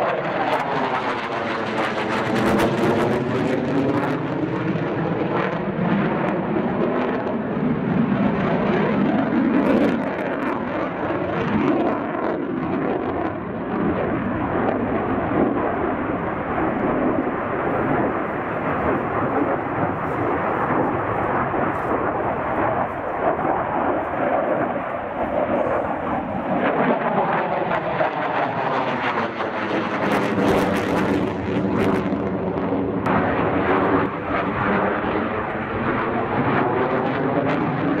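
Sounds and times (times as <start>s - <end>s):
jet engine roaring: 0.0s - 38.0s.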